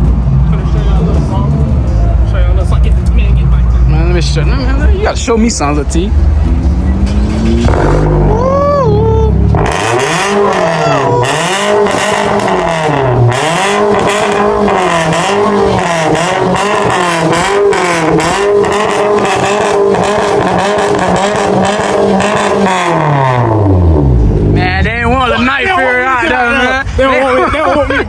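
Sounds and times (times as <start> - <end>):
car engine revving rhythmically: 0.0 - 28.0.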